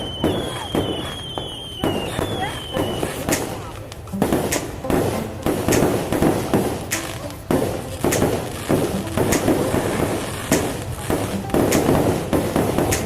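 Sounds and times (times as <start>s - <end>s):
fireworks bangs: 0.0s - 13.0s
fireworks crackle and booming: 0.0s - 13.0s.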